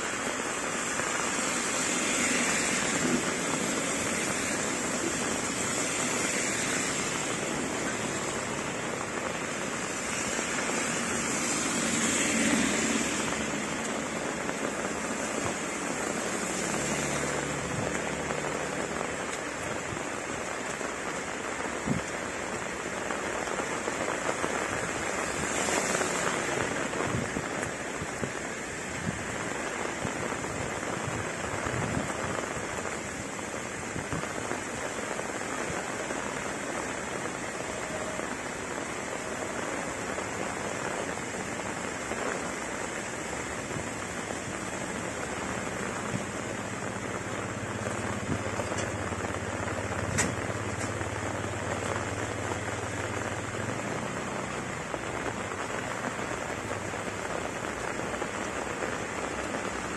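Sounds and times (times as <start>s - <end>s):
heavy rain on asphalt and leaves: 0.0s - 59.9s
sharp taps of raindrops: 0.0s - 59.9s.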